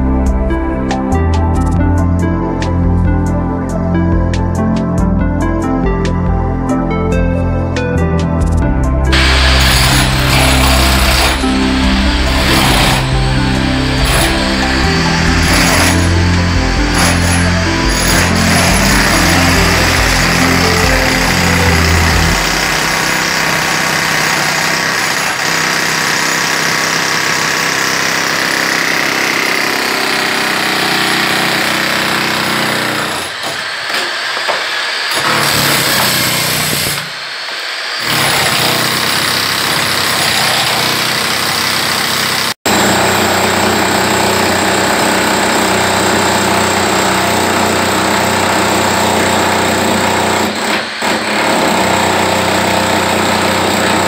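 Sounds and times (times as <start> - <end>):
demolition hammer chipping concrete: 9.1 - 37.4, 38.0 - 54.0.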